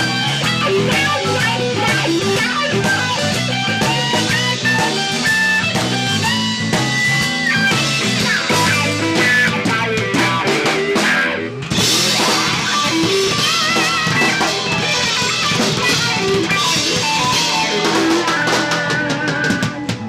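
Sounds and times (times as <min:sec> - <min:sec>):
bass: 0:00.0 - 0:20.0
drum kit: 0:00.0 - 0:20.0
electric guitar lead: 0:00.0 - 0:20.0.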